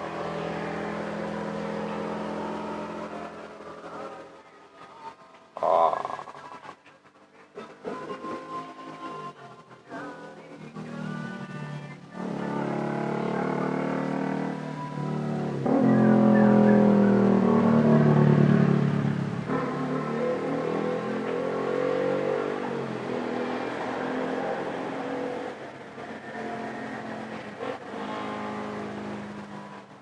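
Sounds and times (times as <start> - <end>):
car giving off pitched tones: 0.0 - 4.3, 10.0 - 30.0.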